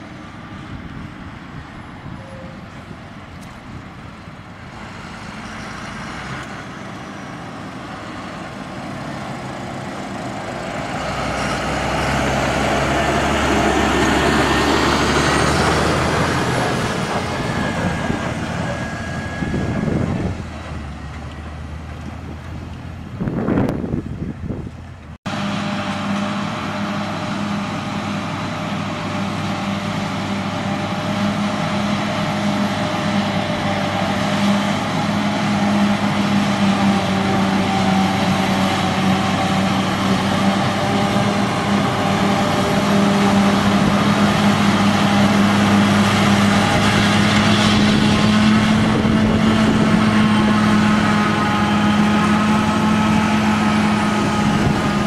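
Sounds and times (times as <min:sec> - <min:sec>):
farm machinery engine running: 0:00.0 - 0:55.0.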